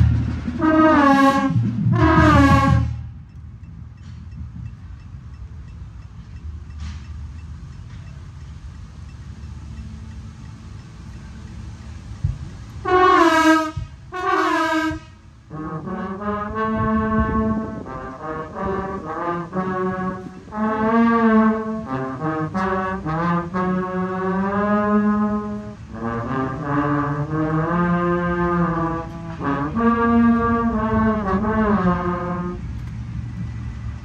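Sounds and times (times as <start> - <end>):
trombones playing held chords: 0.0 - 3.4, 8.8 - 34.0.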